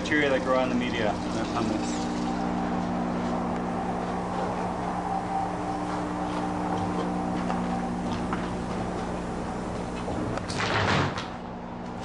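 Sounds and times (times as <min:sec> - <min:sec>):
pump humming: 0:00.0 - 0:12.0.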